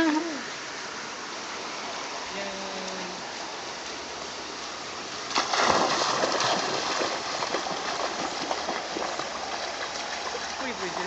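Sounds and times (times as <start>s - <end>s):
river water rushing: 0.0s - 11.0s
water splashing: 0.0s - 11.0s.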